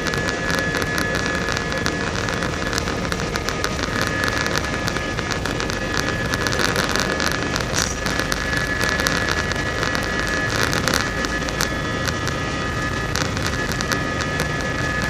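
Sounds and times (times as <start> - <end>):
jet engine whine: 0.0 - 15.0
light crackles and rattles: 0.0 - 15.0.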